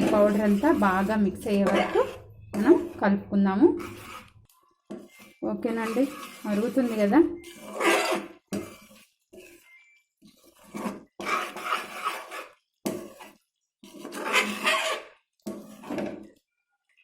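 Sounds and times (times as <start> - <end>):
spoon scraping a cooking pan: 0.0 - 16.4.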